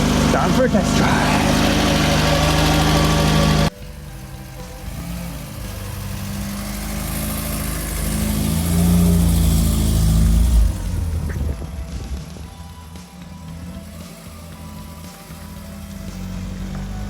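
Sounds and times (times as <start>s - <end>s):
car engine accelerating: 0.0s - 17.0s
car engine idling: 0.0s - 17.0s.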